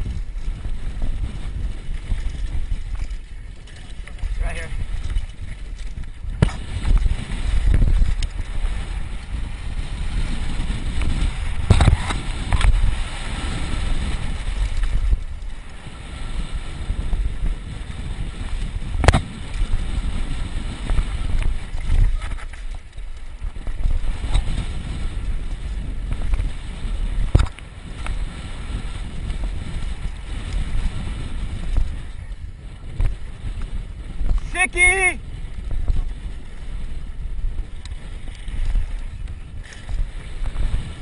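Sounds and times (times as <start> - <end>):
wind buffeting camera: 0.0 - 41.0.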